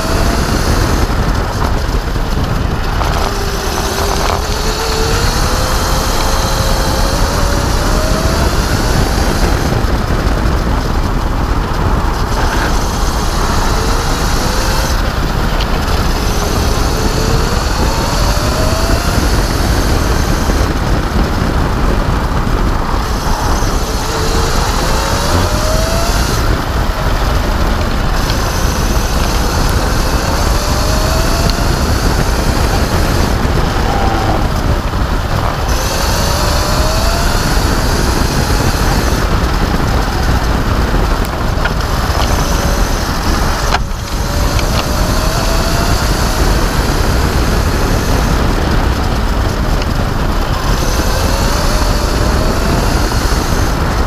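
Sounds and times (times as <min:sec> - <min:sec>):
electric motor whine: 0:00.0 - 0:54.0
tyre and road noise: 0:00.0 - 0:54.0
wind rush: 0:00.0 - 0:54.0.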